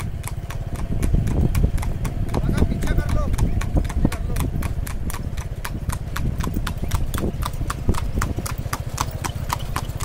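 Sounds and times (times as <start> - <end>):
horse hooves clip-clopping on asphalt: 0.0 - 10.0.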